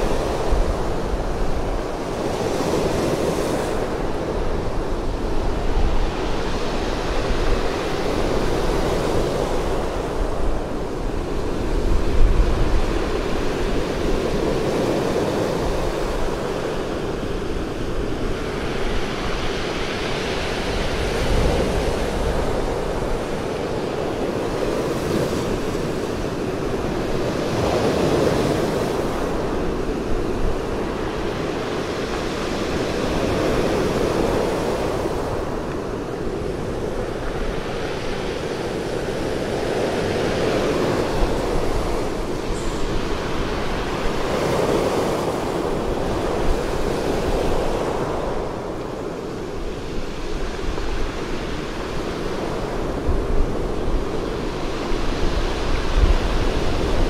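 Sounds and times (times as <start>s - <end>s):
waves crashing on pebble beach: 0.0s - 57.0s.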